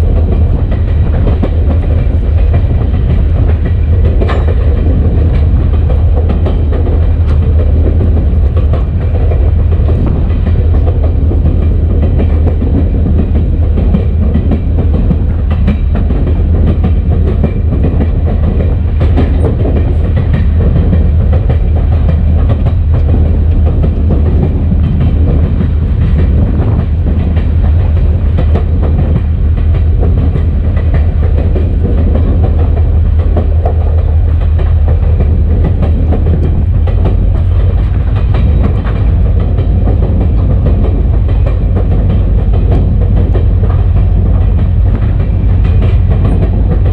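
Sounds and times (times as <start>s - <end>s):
diesel locomotive rumble: 0.0s - 46.9s
moving train noise: 0.0s - 46.9s
wheels clicking on rail joints: 0.0s - 46.9s.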